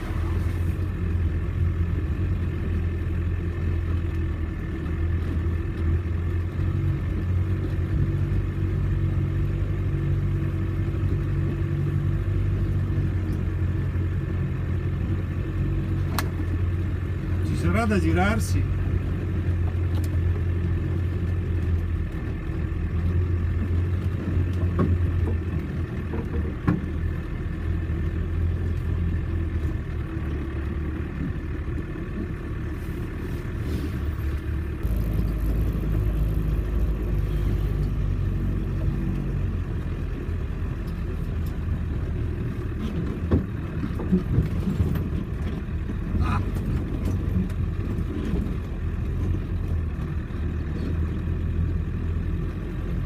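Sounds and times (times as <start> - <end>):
engine droning: 0.0 - 53.0.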